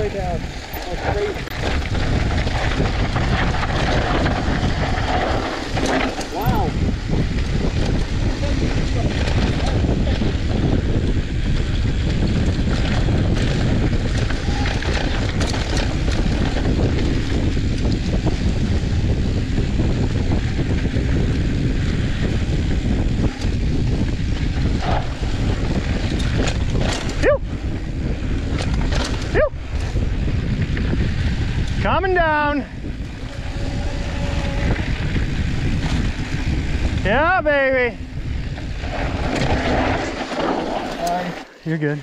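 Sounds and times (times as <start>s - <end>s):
bike tyres rolling on dirt: 0.0s - 42.0s
wind on microphone: 0.0s - 42.0s.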